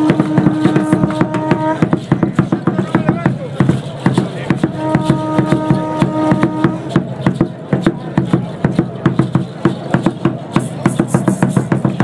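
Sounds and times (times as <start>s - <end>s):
wooden barrel drum beating: 0.0s - 12.0s.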